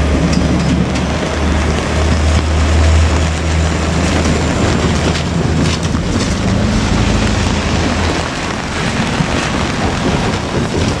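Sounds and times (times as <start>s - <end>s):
diesel railcar engine hum: 0.0s - 11.0s
rain hissing: 0.0s - 11.0s.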